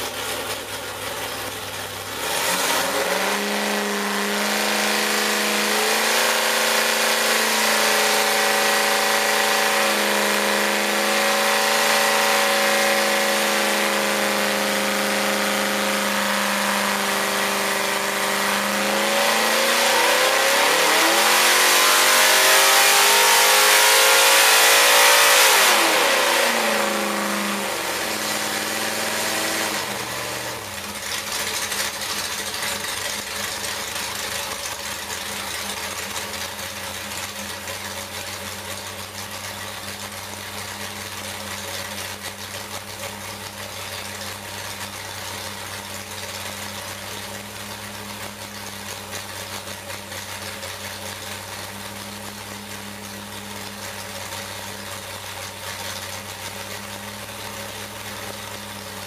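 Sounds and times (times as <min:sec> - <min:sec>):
race engine revving and idling: 0:00.0 - 0:59.0.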